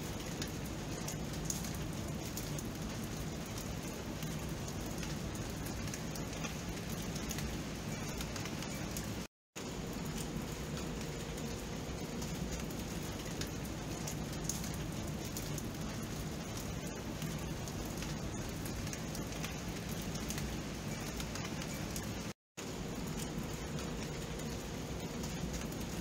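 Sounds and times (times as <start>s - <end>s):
rain falling steadily: 0.0s - 26.0s.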